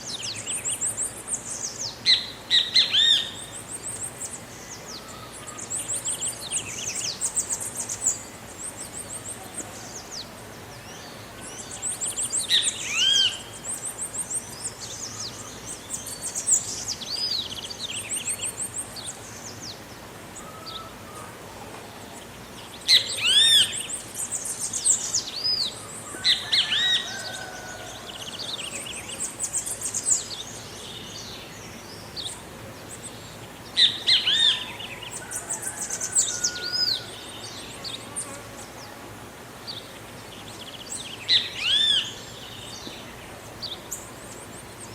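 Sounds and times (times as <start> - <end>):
faint outdoor background: 0.0 - 44.9.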